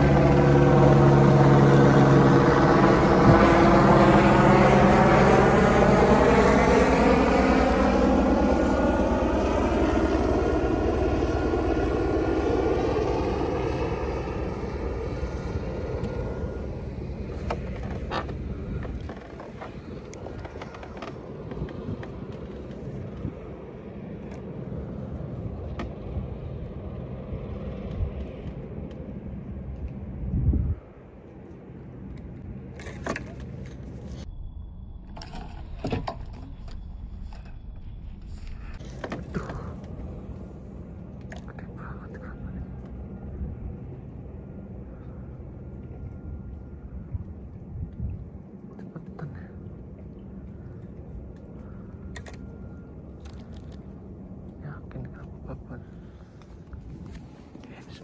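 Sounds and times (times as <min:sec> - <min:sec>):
passing motor engine drone: 0:00.0 - 0:58.0.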